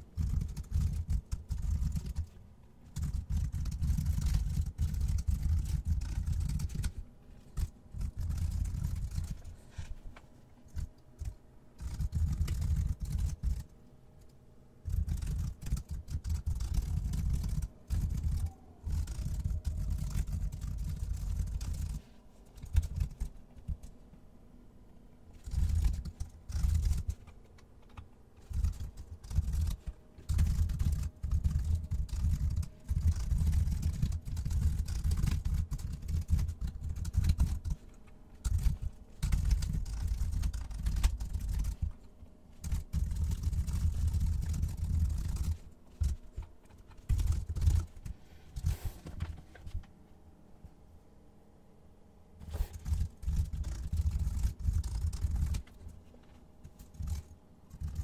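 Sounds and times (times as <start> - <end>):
fast typing on a keyboard: 0.0 - 9.9, 10.7 - 13.7, 14.8 - 24.0, 25.3 - 49.8, 52.5 - 56.0, 56.6 - 58.0.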